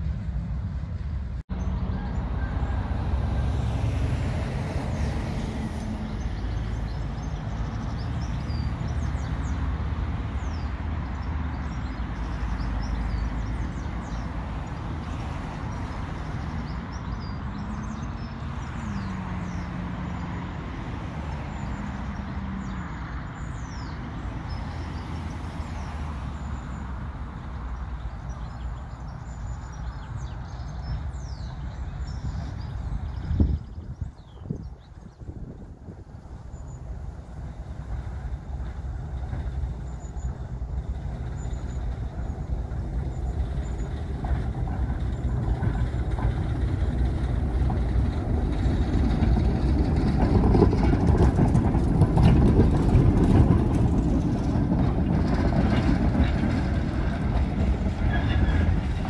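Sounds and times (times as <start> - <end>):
diesel locomotive engine rumble: 0.0 - 59.0
birds chirping: 5.7 - 59.0.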